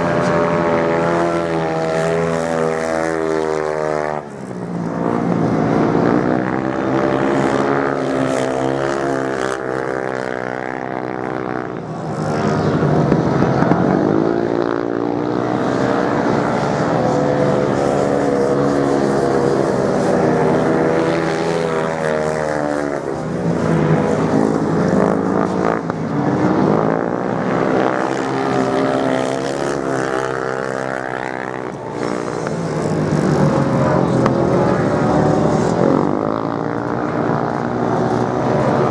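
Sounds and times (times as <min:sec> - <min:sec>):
motorcycle engines revving past: 0:00.0 - 0:38.9.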